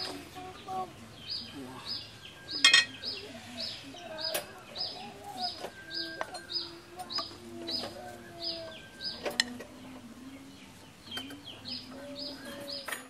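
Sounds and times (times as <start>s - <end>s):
birds chirping: 0.0s - 13.0s
chickens clucking: 0.0s - 13.0s.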